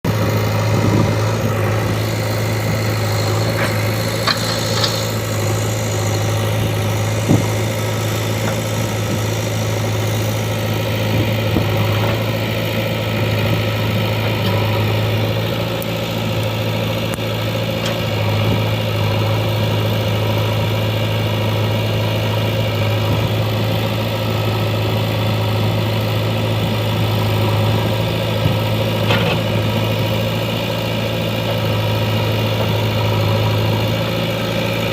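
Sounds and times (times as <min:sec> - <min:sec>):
diesel engine running slowly: 0:00.0 - 0:34.9.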